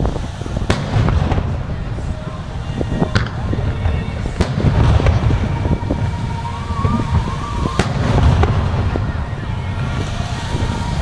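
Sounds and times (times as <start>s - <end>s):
firework shells bursting: 0.0s - 11.0s
low booming and rumble: 0.0s - 11.0s
wavering high tone: 1.6s - 11.0s.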